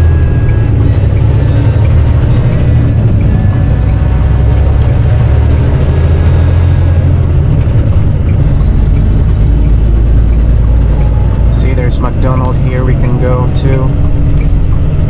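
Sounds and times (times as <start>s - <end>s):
road noise: 0.0s - 15.0s
truck engine rumble: 0.0s - 15.0s.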